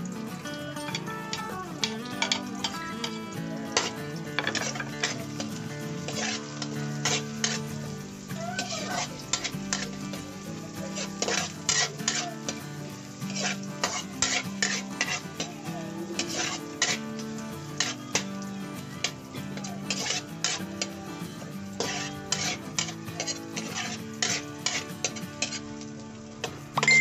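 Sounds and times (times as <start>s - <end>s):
food sizzling in oil: 0.0s - 27.0s
utensil scraping a pan: 0.9s - 25.8s.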